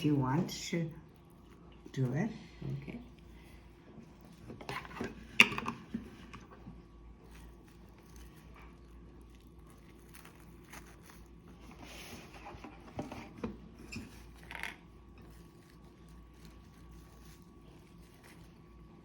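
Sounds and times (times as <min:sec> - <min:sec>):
low steady hum: 0:00.0 - 0:19.0
faint rustles and clicks: 0:01.1 - 0:19.0.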